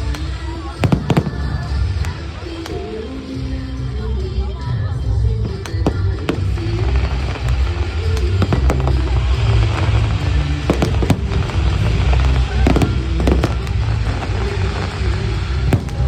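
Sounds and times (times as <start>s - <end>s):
fireworks bangs and crackles: 0.0s - 16.0s
loud music with heavy bass: 0.0s - 16.0s.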